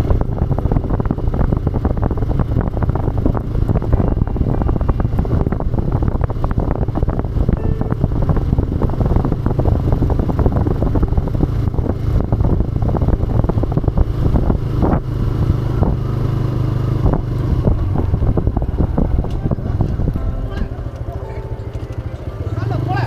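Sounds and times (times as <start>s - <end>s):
motorcycle engine at low revs: 0.0s - 23.0s
wind on microphone: 0.0s - 23.0s.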